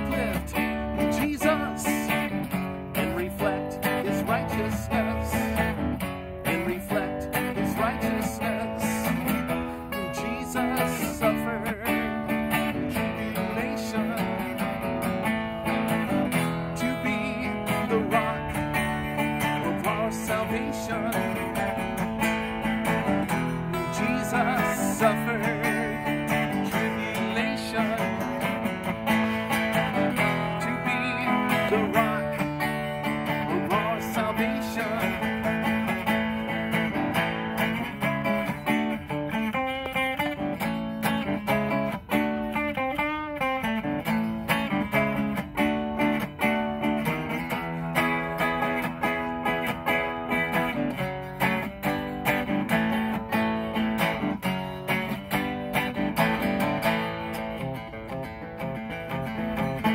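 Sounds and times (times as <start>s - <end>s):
guitar playing chords and melody: 0.0s - 59.9s.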